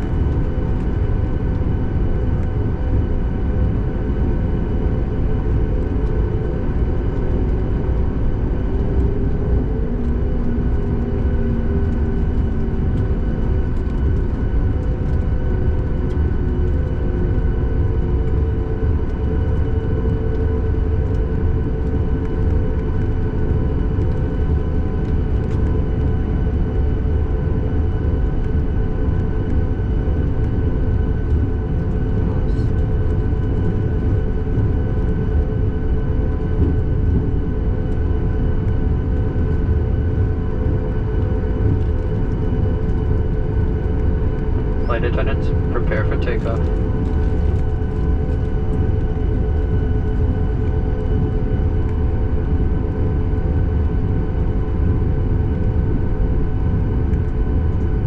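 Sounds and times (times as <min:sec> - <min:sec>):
airplane engines idling: 0:00.0 - 0:58.0.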